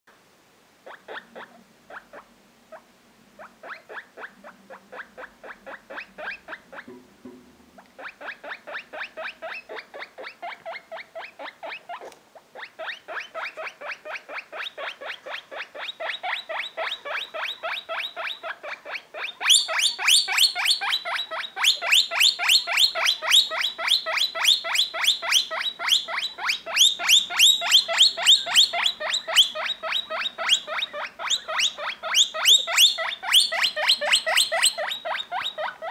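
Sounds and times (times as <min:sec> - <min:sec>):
guinea pig squealing: 0:00.8 - 0:02.8, 0:03.4 - 0:06.9, 0:08.0 - 0:35.9.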